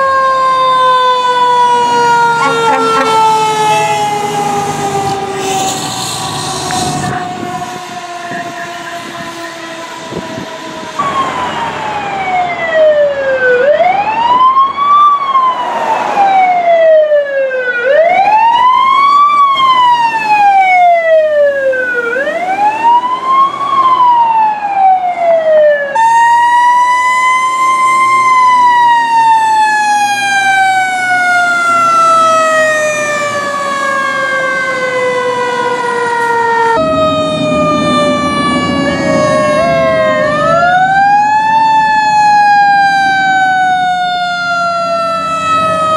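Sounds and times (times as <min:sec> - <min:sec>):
fire engine siren held tone: 0:00.0 - 0:45.9
long falling siren tone: 0:00.0 - 0:45.9
wail siren: 0:00.0 - 0:45.9.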